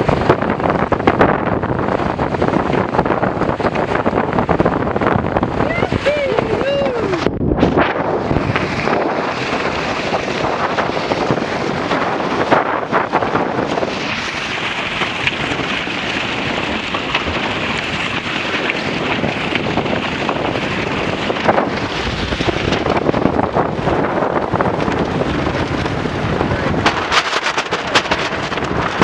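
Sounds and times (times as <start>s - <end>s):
water rushing past hulls: 0.0s - 29.0s
wind buffeting microphone: 0.0s - 29.0s.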